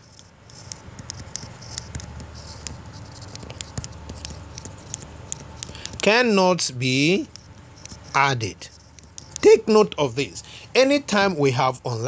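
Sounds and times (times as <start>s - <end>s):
stylus tapping and scratching: 0.0s - 10.4s.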